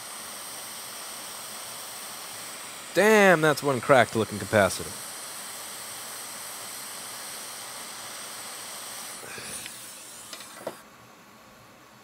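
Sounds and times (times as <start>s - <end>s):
hot air station hissing: 0.0s - 10.9s.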